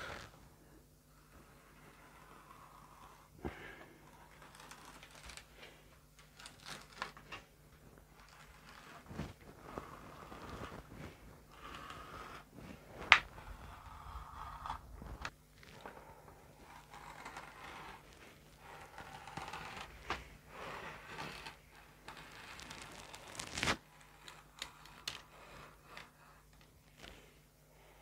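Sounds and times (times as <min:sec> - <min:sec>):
wood veneer strips rustling: 0:04.0 - 0:27.3.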